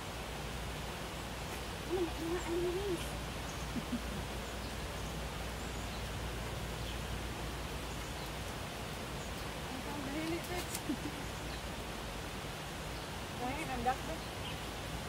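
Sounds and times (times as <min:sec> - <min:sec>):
mountain stream and waterfall: 0:00.0 - 0:15.0.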